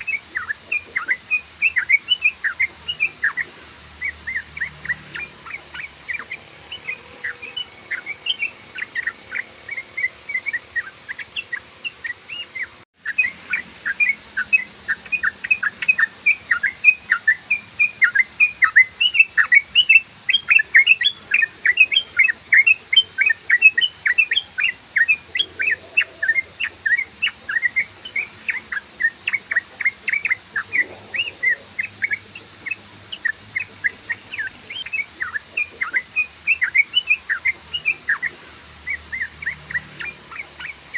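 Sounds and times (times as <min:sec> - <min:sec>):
bulbul rapid chirping song: 0:00.0 - 0:40.9.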